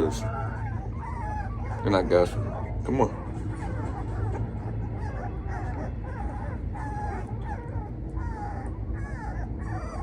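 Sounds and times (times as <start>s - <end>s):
puppies whimpering and yipping: 0.0s - 10.0s.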